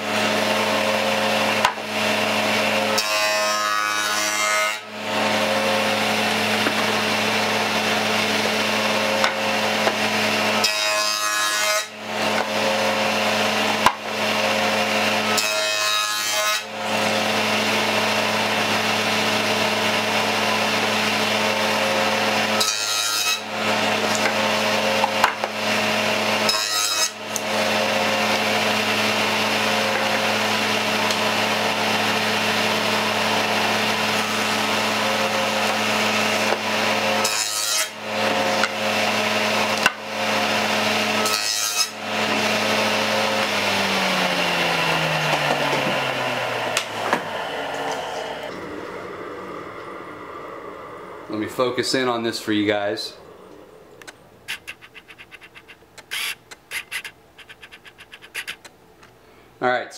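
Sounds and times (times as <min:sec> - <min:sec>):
table saw cutting wood: 0:00.0 - 0:49.5, 0:54.4 - 0:58.7.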